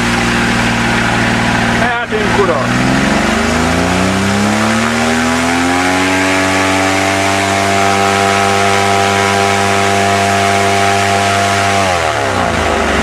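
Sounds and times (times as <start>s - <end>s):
engine at full throttle: 0.0s - 13.0s.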